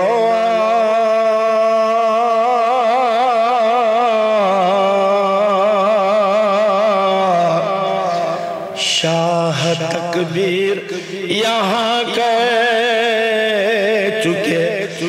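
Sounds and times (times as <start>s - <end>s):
man singing long note: 0.0s - 15.0s.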